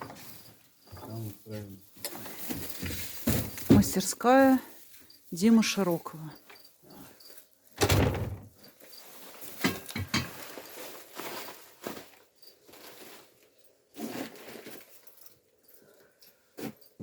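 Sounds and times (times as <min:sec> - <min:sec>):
rustling: 0:00.0 - 0:07.8, 0:08.5 - 0:17.0.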